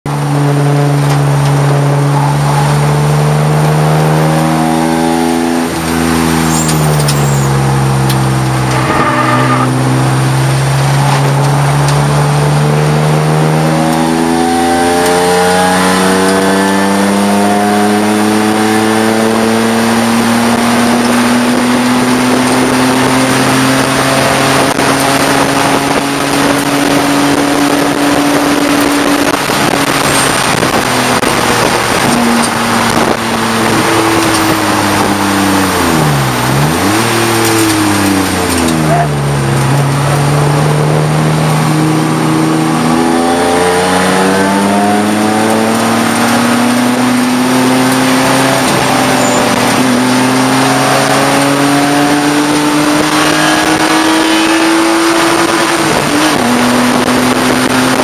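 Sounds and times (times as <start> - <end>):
race car engine revving: 0.1 - 58.0
road and wind noise: 0.1 - 58.0.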